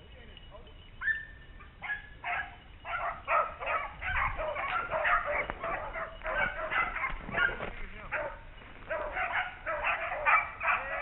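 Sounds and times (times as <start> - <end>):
beagles baying: 0.5 - 11.0.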